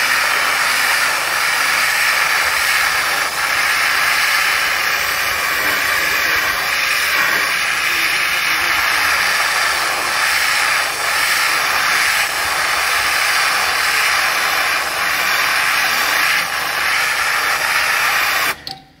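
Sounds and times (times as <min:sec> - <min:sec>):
high-pressure water jet hissing: 0:00.0 - 0:18.6.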